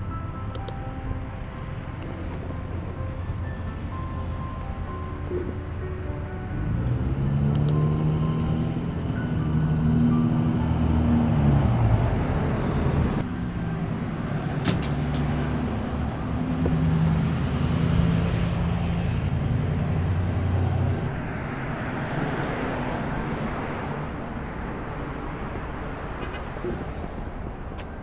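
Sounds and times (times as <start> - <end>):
tyre and road noise: 0.0 - 28.0
vehicles passing: 0.0 - 28.0
car engines running: 0.2 - 28.0.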